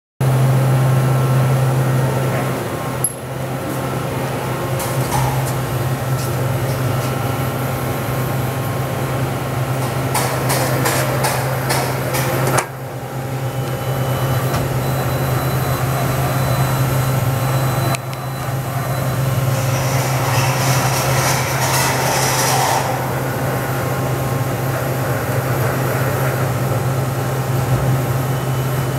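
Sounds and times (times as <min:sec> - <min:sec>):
machine low hum: 0:00.2 - 0:28.9.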